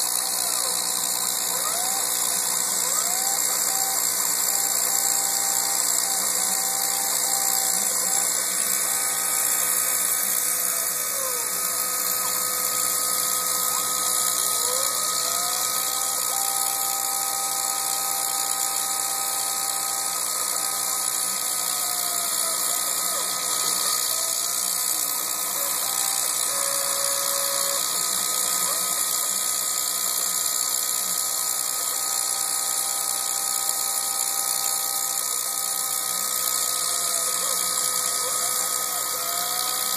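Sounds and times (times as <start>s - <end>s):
milling machine whine and hiss: 0.0s - 39.9s.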